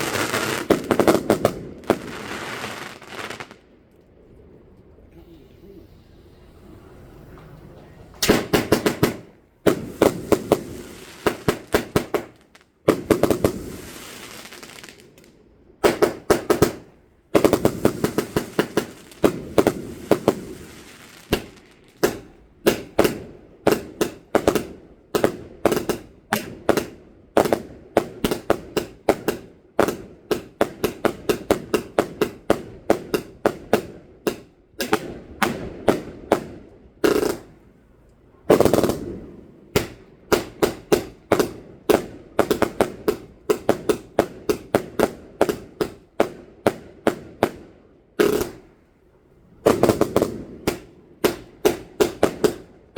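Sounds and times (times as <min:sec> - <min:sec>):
fireworks bangs: 0:00.0 - 0:03.9, 0:07.3 - 0:37.7, 0:38.5 - 0:48.8, 0:49.5 - 0:52.9
fireworks crackling: 0:00.0 - 0:04.0, 0:08.1 - 0:37.7, 0:38.5 - 0:48.8, 0:49.6 - 0:52.9.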